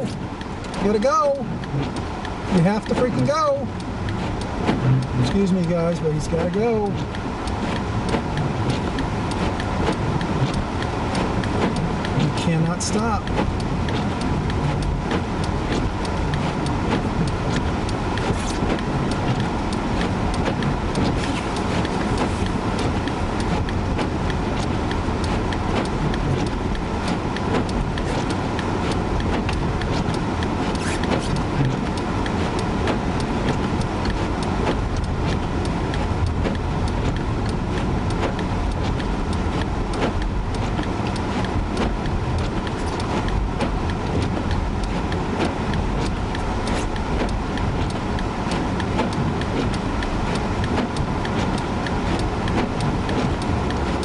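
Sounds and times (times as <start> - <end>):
in-cabin road and engine noise: 0.0 - 54.0.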